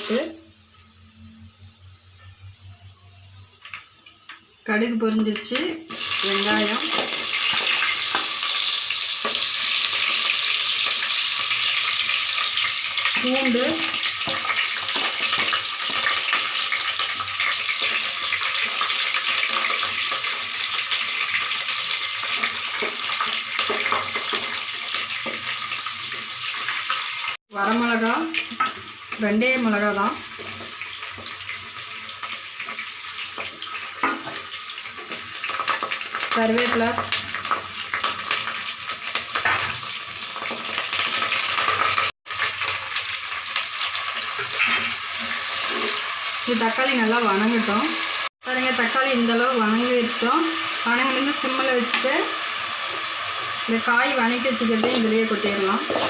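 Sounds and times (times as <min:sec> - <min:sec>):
onion frying in hot oil: 0:00.0 - 0:56.0.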